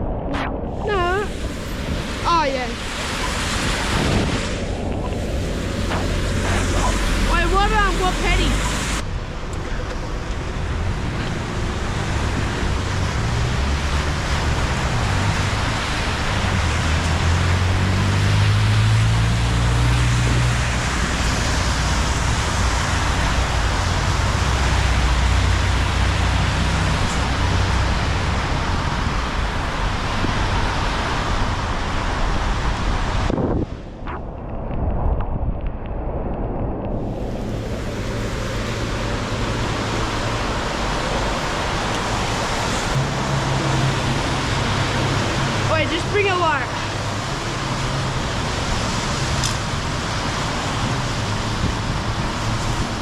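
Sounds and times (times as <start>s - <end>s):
wind buffeting microphone: 0.0s - 18.1s, 19.8s - 53.0s.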